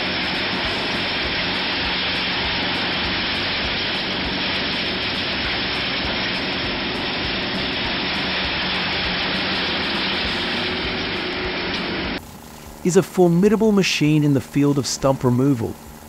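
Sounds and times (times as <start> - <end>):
low engine hum: 0.0 - 16.0
wood chipper chipping branches: 0.0 - 16.0.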